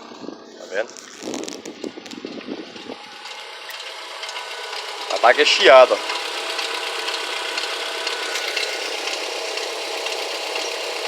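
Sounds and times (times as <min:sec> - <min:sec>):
car engine idling: 0:00.0 - 0:11.0
rapid engine ticking: 0:00.0 - 0:11.0
engine hiss: 0:00.4 - 0:11.0.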